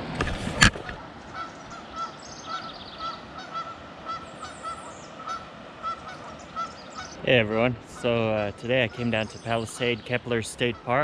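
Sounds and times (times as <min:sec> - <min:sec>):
songbird chirps: 0:01.2 - 0:11.0.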